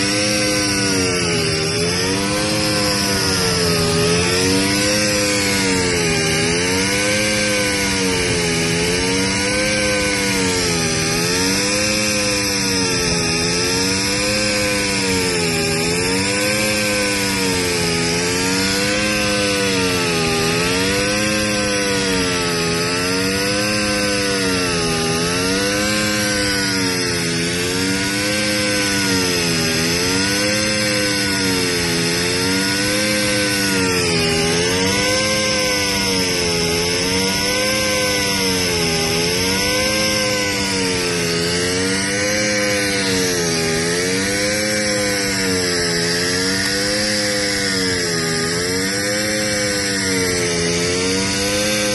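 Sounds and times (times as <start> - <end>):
grinding machine motor humming: 0.0 - 51.9
high grinding hiss: 0.0 - 51.9.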